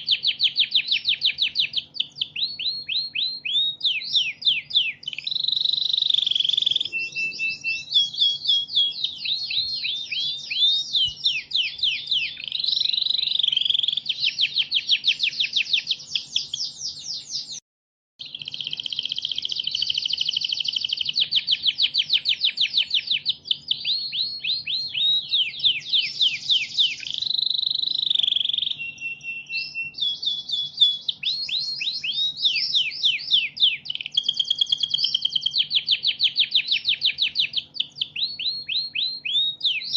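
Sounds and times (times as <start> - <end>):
songbird chirps and trills: 0.0 - 17.6, 18.2 - 39.9.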